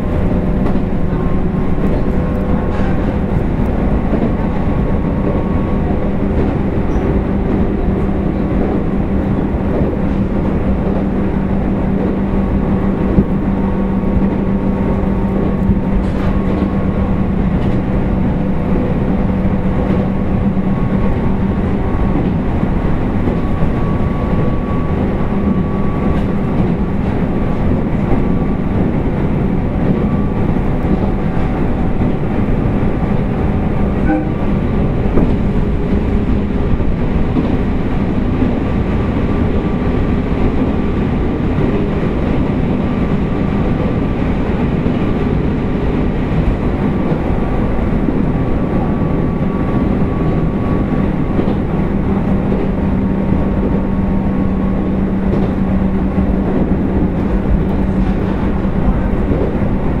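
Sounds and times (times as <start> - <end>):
train wheels rumbling on rail: 0.0 - 60.0.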